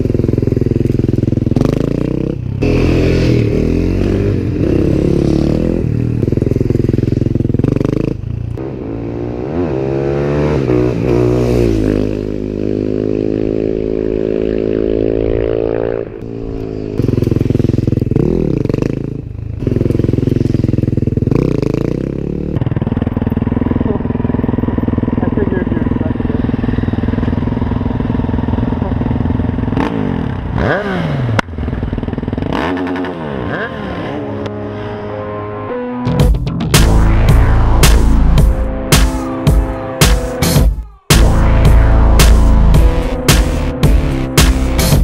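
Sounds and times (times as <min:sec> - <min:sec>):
motorcycle engine revving: 0:00.0 - 0:35.1, 0:36.7 - 0:45.0.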